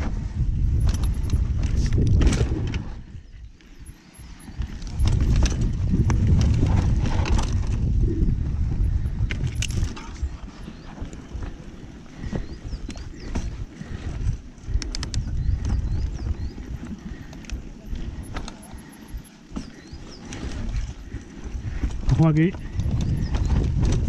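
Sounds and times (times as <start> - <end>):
wind rumble on microphone: 0.0 - 24.0
bike clattering: 3.6 - 8.0, 8.6 - 24.0.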